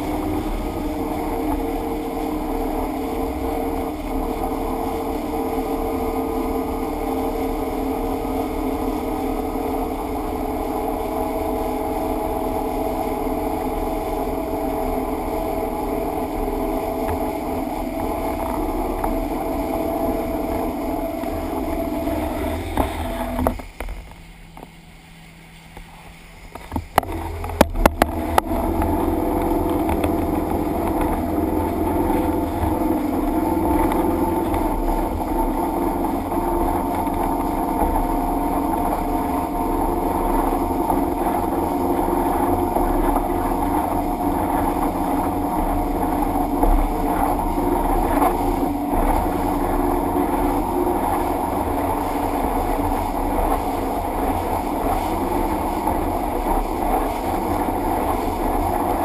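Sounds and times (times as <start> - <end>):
motorboat engine hum: 0.0 - 59.0
water and wind rushing: 0.0 - 59.0.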